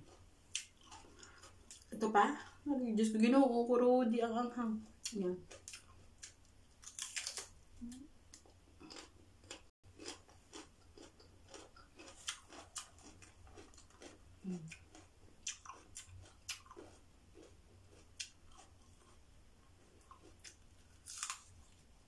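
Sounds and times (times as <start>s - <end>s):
person chewing crunchy pepper: 0.0s - 2.6s, 4.9s - 21.9s.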